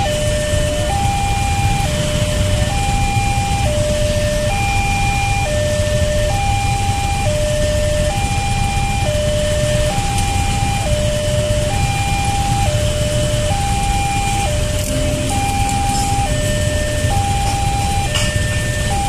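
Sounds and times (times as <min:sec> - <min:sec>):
level crossing two-tone alarm: 0:00.0 - 0:19.0
low rumble of road traffic: 0:00.0 - 0:19.0.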